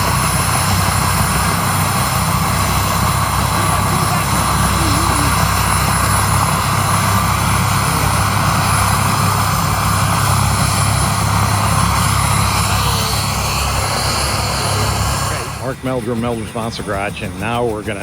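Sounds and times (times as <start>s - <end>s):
helicopter rotor and turbine: 0.0s - 18.0s.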